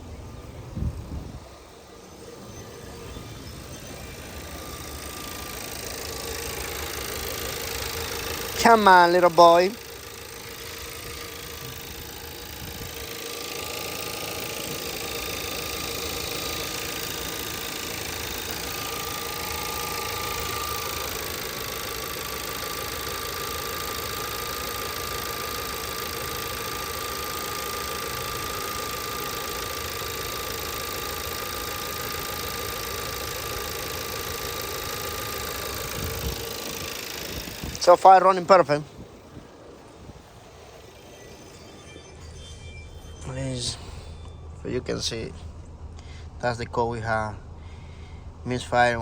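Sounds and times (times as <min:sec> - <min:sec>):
steady whine: 0:00.0 - 0:49.0
car engine idling: 0:03.4 - 0:40.9, 0:43.2 - 0:49.0.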